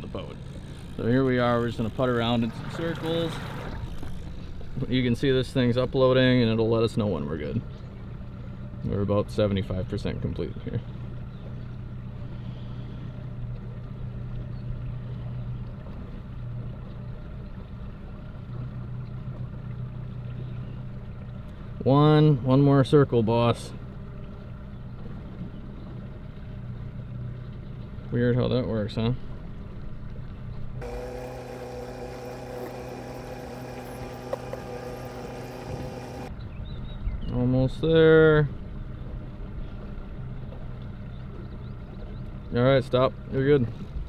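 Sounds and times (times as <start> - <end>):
boat motor humming: 0.0 - 44.0.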